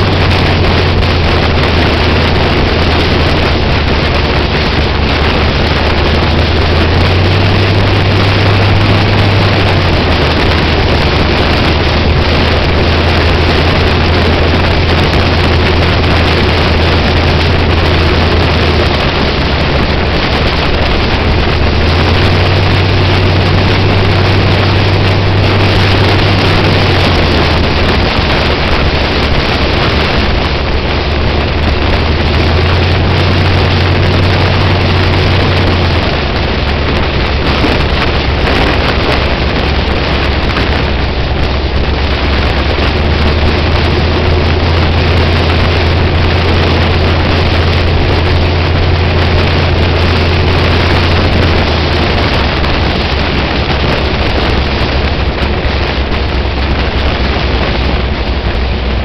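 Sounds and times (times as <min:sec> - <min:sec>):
car engine cruising: 0:00.0 - 0:59.0
wind buffeting camera: 0:00.0 - 0:59.0.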